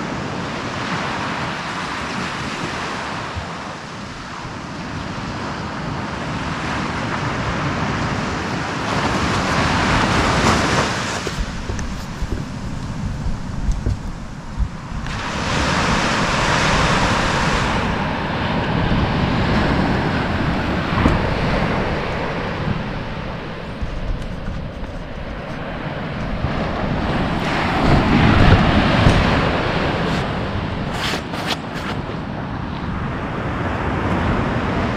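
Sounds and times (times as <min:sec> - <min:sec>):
surf breaking on a beach: 0:00.0 - 0:34.9
wind rumbling on microphone: 0:00.0 - 0:34.9.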